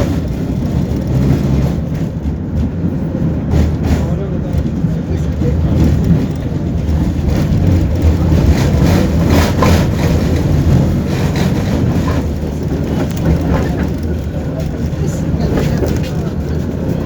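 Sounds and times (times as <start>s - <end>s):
faint track knocks: 0.0s - 17.0s
tram wheels rumbling on rails: 0.0s - 17.0s.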